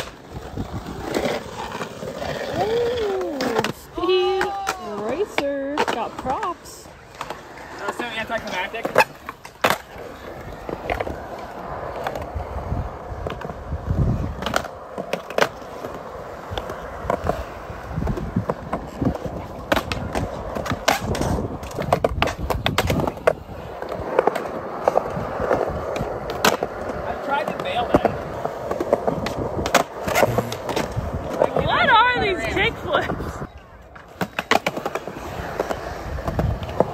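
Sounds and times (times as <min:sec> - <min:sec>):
skateboard clacks: 0:00.0 - 0:36.9
skateboard wheels rolling on concrete: 0:00.0 - 0:36.9.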